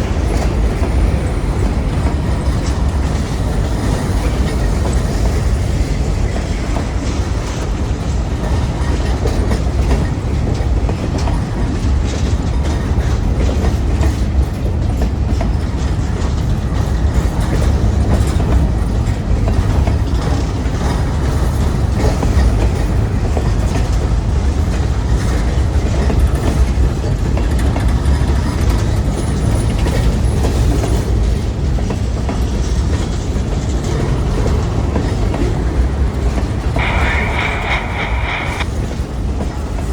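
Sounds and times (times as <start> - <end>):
freight train rumble: 0.0 - 39.9.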